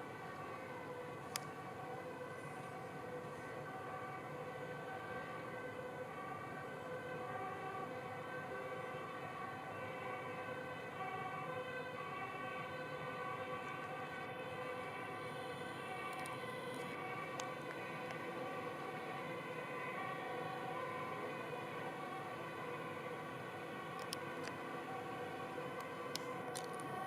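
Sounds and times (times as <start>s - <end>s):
emergency vehicle sirens: 0.0s - 27.0s.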